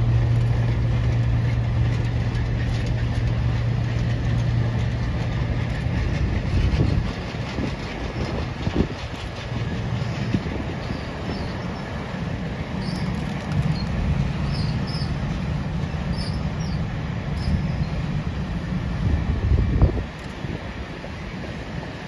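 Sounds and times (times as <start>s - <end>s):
steel wheels rumbling on rail: 0.0s - 22.0s.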